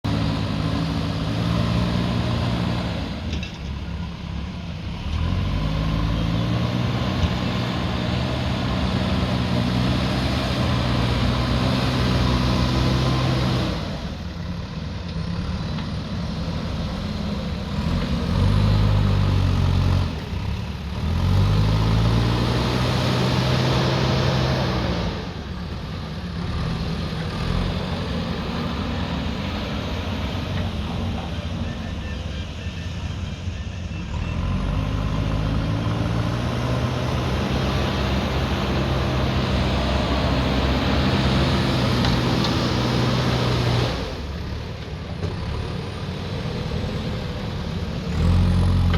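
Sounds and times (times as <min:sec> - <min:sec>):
diesel engine revving under load: 0:00.0 - 0:48.9.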